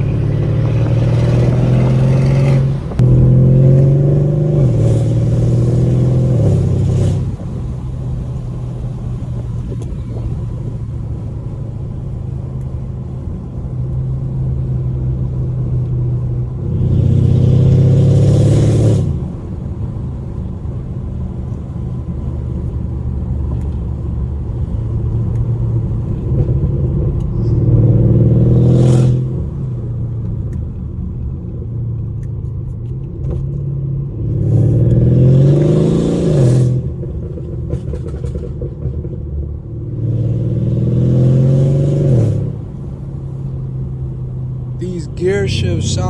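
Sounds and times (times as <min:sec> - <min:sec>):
car engine revving under load: 0:00.0 - 0:31.1, 0:32.0 - 0:46.0.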